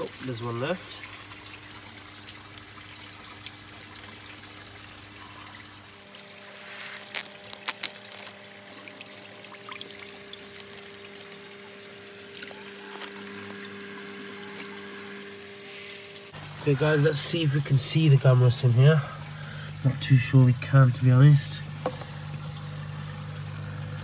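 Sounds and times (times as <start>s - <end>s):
water pouring into a tub: 0.0s - 24.0s.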